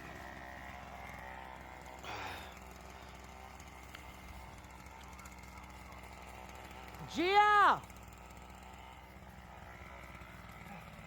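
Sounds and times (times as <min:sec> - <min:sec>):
chainsaw engine idling: 0:00.0 - 0:11.0.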